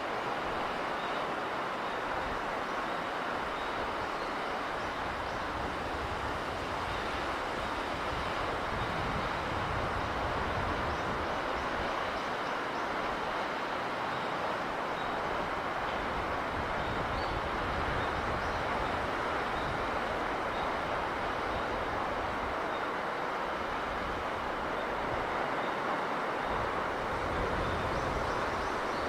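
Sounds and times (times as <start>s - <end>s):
sea breeze and surf: 0.0s - 29.0s.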